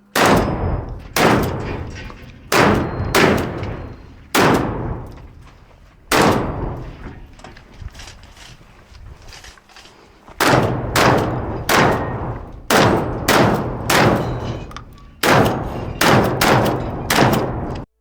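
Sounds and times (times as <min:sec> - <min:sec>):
shotgun shots: 0:00.1 - 0:07.6, 0:10.4 - 0:17.8.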